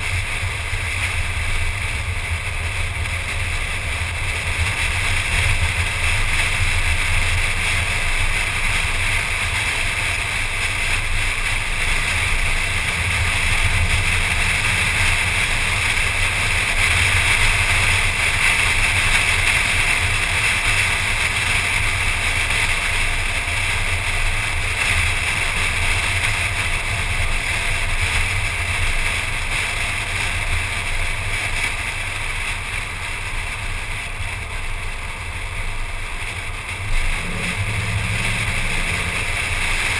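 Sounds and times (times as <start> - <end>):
car wind and road noise: 0.0 - 39.9.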